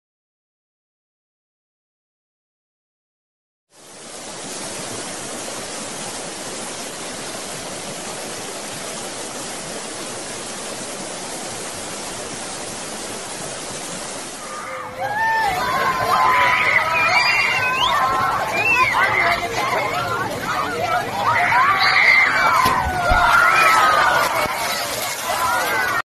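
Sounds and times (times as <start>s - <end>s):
river rushing over rocks: 3.8s - 26.0s.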